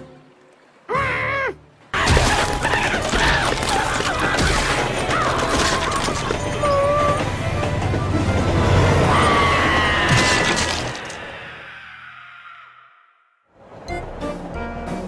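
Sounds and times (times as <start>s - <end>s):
rising and falling cries: 0.9s - 13.4s.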